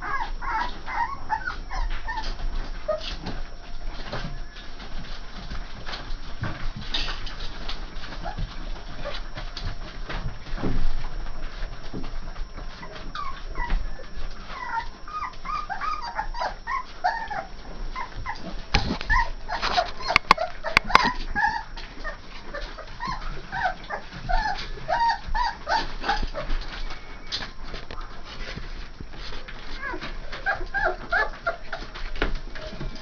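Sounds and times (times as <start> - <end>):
puppies whimpering and squeaking: 0.0 - 33.0.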